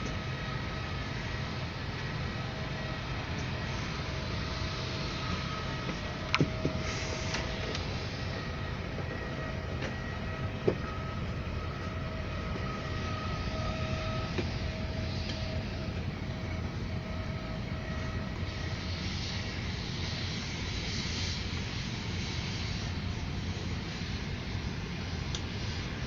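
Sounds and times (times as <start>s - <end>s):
airplane cabin air rush and hum: 0.0s - 26.0s
faint whine: 0.0s - 26.0s.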